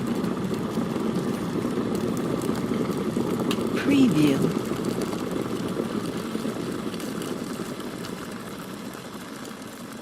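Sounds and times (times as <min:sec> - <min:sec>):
kettle water boiling: 0:00.0 - 0:10.0.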